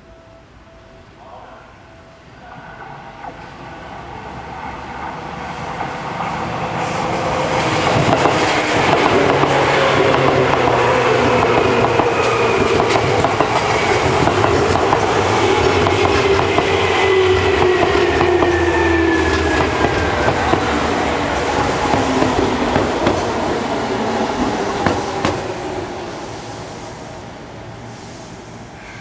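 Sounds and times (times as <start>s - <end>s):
train wheels rumbling on rails: 2.8s - 29.0s.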